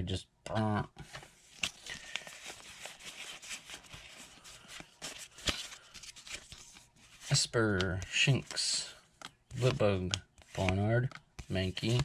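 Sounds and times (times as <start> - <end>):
trading cards rustling and clicking: 0.9 - 12.0.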